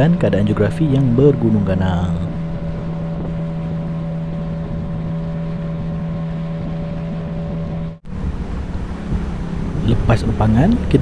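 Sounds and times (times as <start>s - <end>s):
boat engine humming: 0.0s - 11.0s
water noise: 0.0s - 11.0s
wind: 0.0s - 11.0s.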